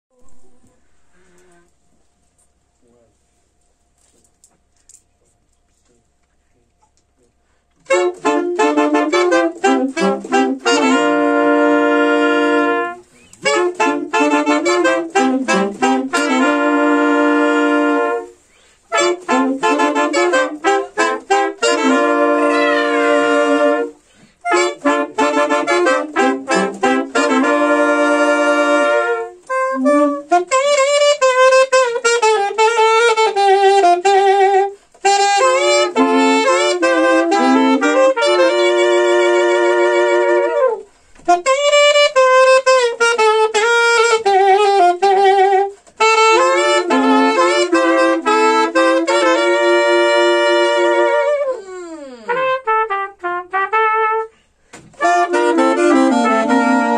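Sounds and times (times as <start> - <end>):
saxophones and trumpet playing reggae: 7.8 - 56.9.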